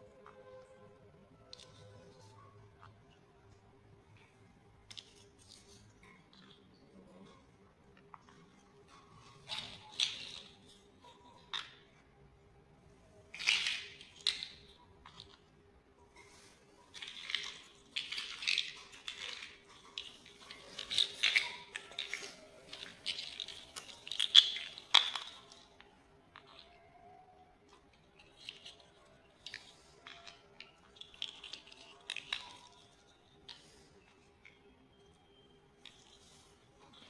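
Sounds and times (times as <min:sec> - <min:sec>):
plastic blocks rustling and clicking: 0:00.0 - 0:12.1, 0:12.9 - 0:37.0.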